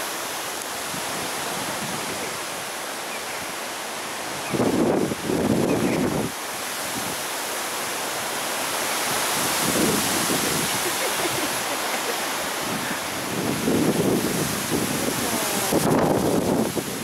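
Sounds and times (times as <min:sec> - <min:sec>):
wind gusts buffeting microphone: 0:00.0 - 0:02.8, 0:03.4 - 0:17.0
rushing wind: 0:00.0 - 0:17.0.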